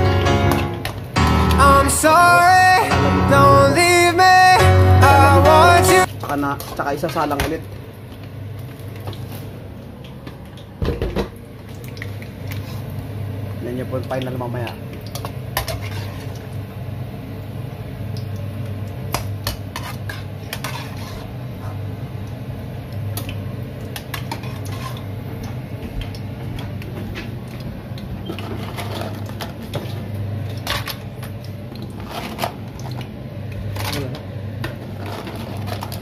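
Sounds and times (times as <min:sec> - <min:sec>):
pork skin frying in oil: 0:06.1 - 0:36.0.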